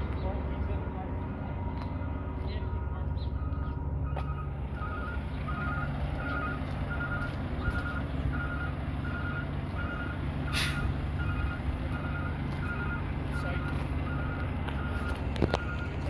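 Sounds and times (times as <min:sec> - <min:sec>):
truck engine running: 0:00.0 - 0:16.0
truck reversing alarm beeping: 0:00.0 - 0:16.0.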